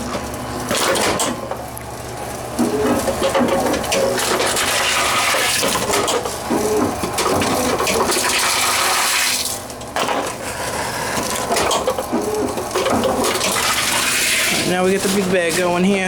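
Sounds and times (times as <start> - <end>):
vending machine rushing noise: 0.0 - 16.0.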